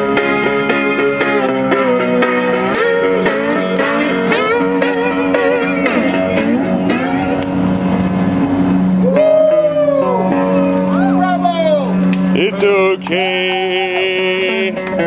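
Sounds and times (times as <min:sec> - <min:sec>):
blues guitar with bent notes: 0:00.0 - 0:15.0.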